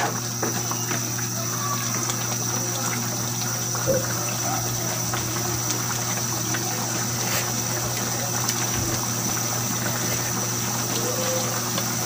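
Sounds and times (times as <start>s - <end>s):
broth simmering hiss: 0.0s - 12.0s.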